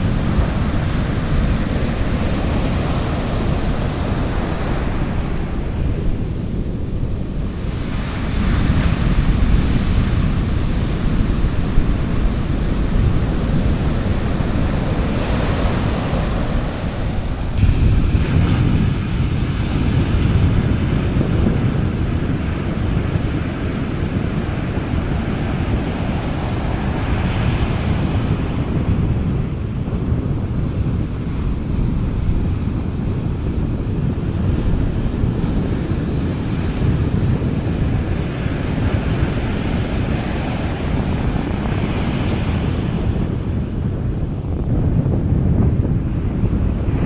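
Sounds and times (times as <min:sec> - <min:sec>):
waves washing onto beach: 0:00.0 - 0:47.0
wind on microphone: 0:00.0 - 0:47.0.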